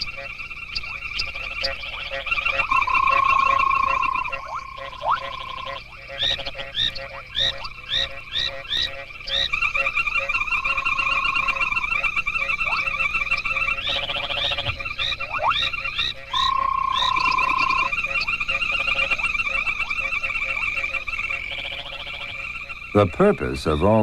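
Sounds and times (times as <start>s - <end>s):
frogs pulsing trills: 0.0s - 24.0s
frogs short rising chirps: 0.0s - 24.0s.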